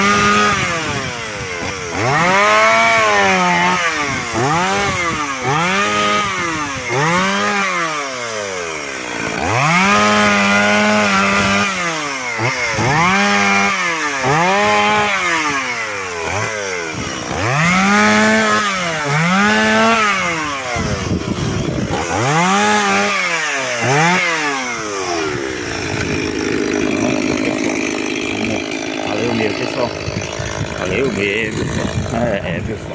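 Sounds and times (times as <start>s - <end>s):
chainsaw cutting logs: 0.0s - 32.9s.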